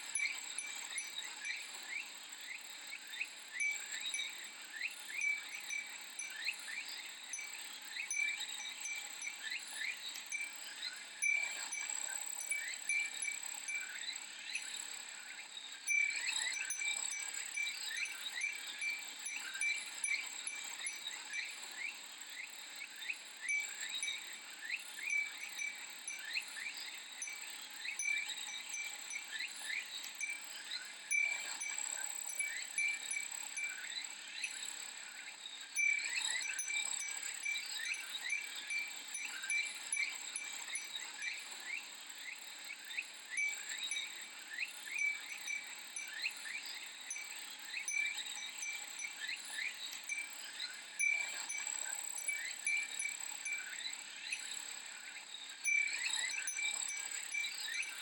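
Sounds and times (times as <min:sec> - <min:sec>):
glass wind chime tinkling: 0:00.0 - 0:58.0
cicada drone: 0:00.1 - 0:58.0.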